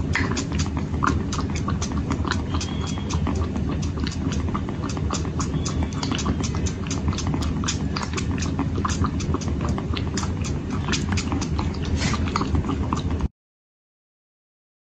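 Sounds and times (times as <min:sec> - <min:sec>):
kittens suckling: 0:00.0 - 0:13.3
steady low hum: 0:00.0 - 0:13.3.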